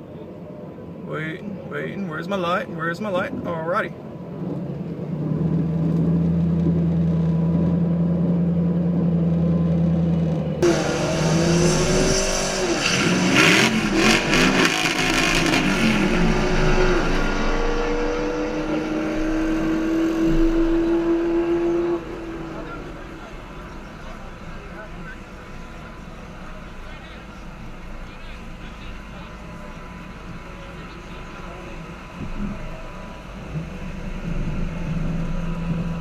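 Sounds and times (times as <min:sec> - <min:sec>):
wind and road noise: 0:00.0 - 0:36.0
car engine revving and accelerating: 0:04.9 - 0:36.0.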